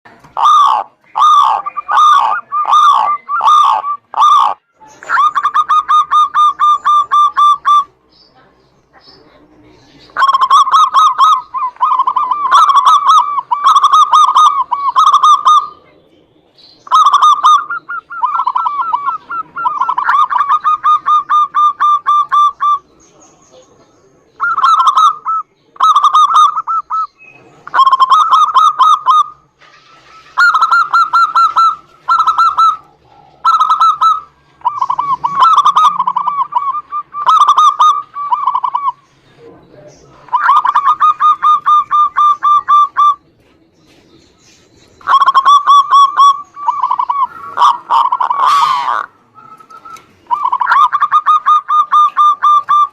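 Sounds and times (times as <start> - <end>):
doves cooing: 0.1 - 8.1, 9.1 - 16.2, 16.8 - 52.9.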